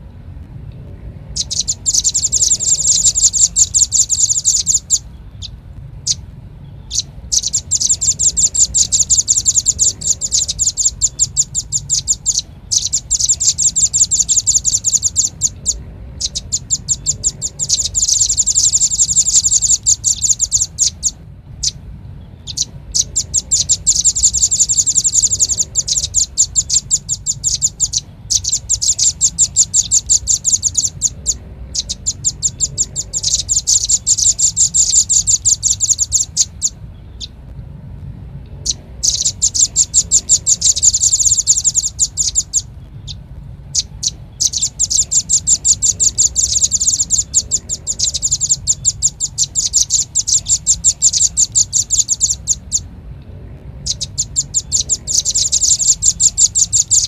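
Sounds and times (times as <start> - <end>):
bird calls chattering: 1.3 - 37.4, 38.6 - 52.9, 53.8 - 57.0.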